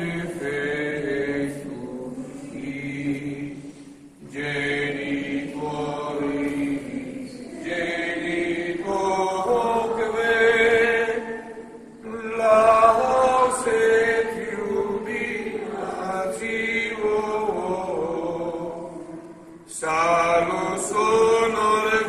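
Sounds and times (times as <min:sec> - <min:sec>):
voices singing chant: 0:00.0 - 0:22.0.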